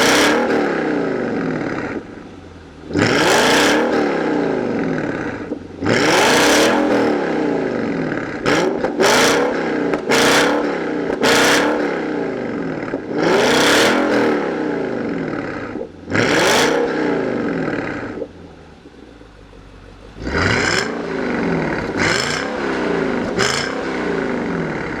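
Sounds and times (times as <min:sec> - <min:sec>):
car engine idling: 0:00.0 - 0:25.0
car engine revving: 0:00.0 - 0:25.0.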